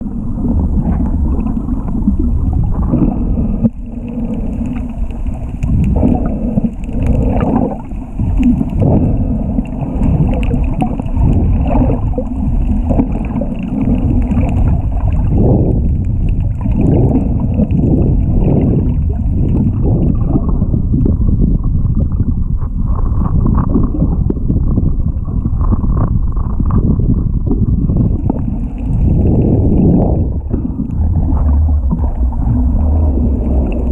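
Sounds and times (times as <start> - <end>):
muffled underwater rumble: 0.0 - 33.9
water bubbling and gurgling: 0.0 - 33.9.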